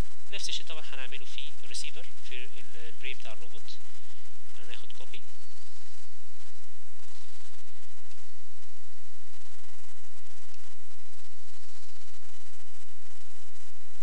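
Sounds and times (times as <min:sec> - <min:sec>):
low hum: 0:00.0 - 0:14.0
steady hiss: 0:00.0 - 0:14.0
thin steady high tone: 0:00.0 - 0:14.0.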